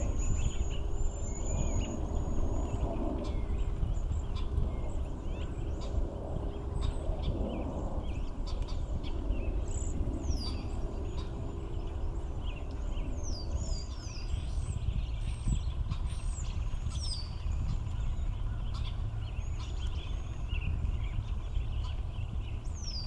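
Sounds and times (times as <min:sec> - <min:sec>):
birds chirping and whistling: 0:00.0 - 0:23.0
steady low rumble: 0:00.0 - 0:23.0.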